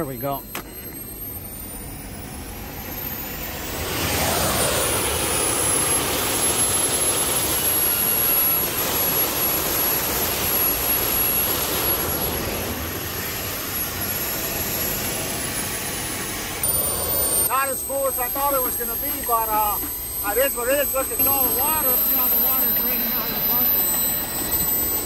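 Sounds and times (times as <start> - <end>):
high whistling engine whine: 0.0 - 25.0
turbojet engines roaring: 0.0 - 25.0.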